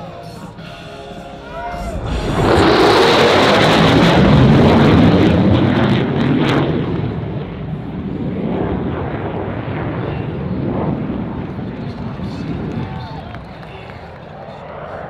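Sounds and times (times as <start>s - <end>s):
jet flying overhead: 0.0s - 15.0s.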